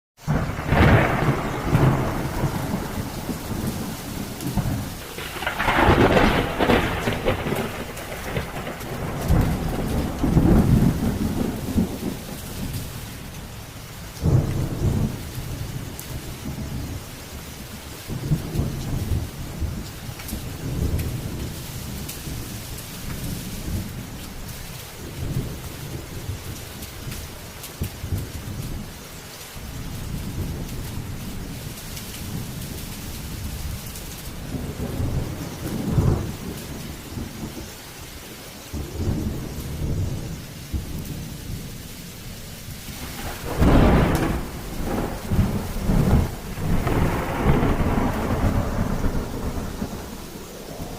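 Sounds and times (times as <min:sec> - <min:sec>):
thunder rolling: 0:00.2 - 0:29.0, 0:29.6 - 0:37.8, 0:38.7 - 0:41.8, 0:42.7 - 0:50.9
heavy rain falling: 0:00.2 - 0:50.9.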